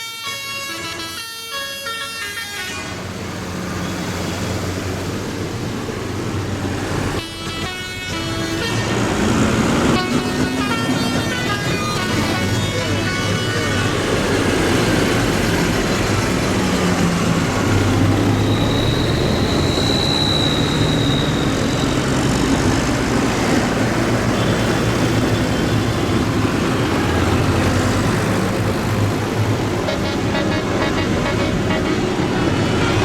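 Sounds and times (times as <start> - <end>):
tractor engines running: 0.0 - 33.0.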